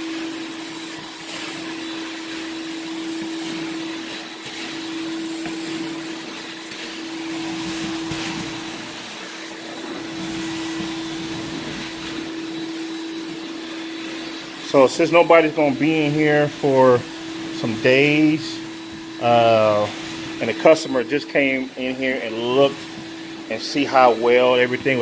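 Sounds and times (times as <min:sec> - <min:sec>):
carpet extractor motor humming: 0:00.0 - 0:25.0.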